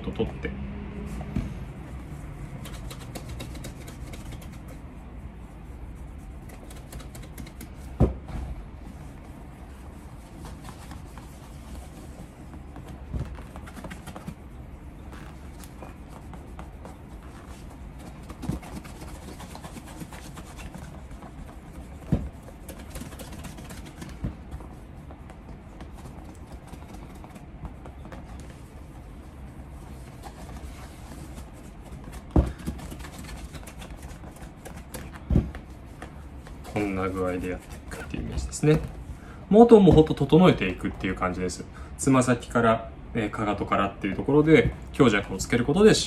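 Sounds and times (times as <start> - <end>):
cloth rubbing a leather shoe: 1.0 - 39.1.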